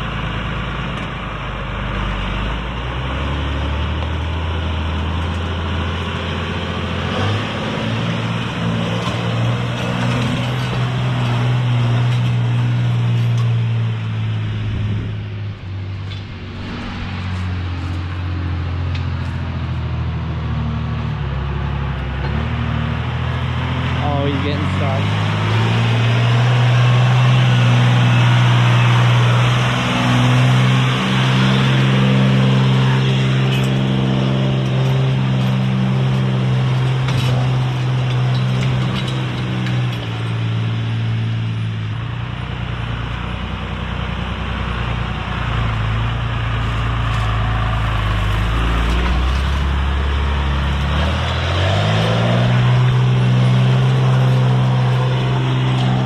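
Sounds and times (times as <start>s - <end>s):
truck engine at high revs: 0.0s - 56.0s.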